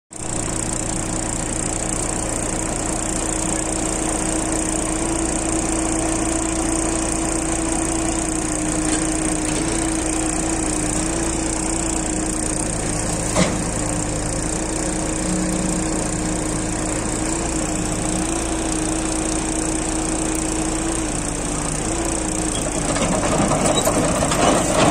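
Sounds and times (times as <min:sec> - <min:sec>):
excavator diesel engine running: 0:00.1 - 0:24.9.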